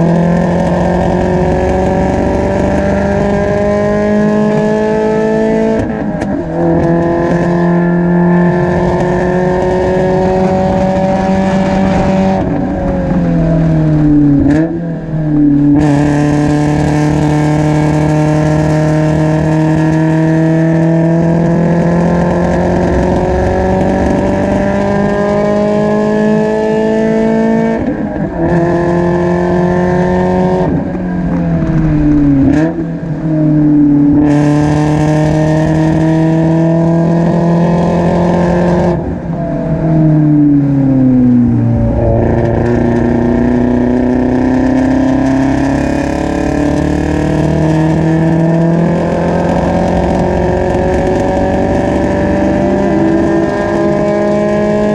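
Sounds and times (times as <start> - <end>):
car engine at full throttle: 0.0 - 54.9.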